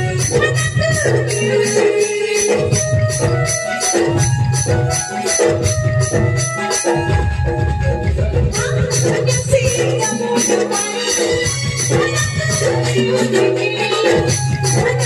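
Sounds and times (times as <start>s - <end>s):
bright metallic percussion beat: 0.0s - 15.0s
drums: 0.0s - 15.0s
keyboard melody: 0.0s - 15.0s.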